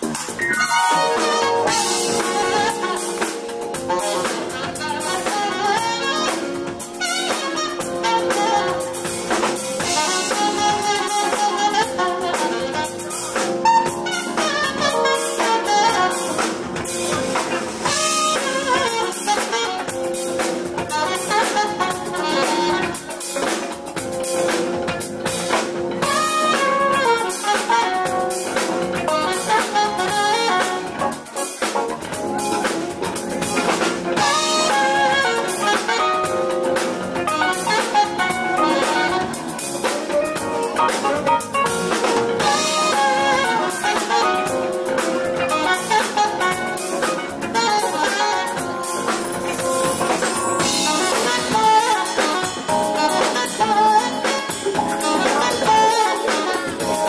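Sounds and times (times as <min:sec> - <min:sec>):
drum kit: 0:00.0 - 0:57.0
electric bass: 0:00.0 - 0:57.0
electric guitar: 0:00.0 - 0:57.0
keyboards: 0:00.0 - 0:57.0
saxophone melody: 0:00.0 - 0:57.0.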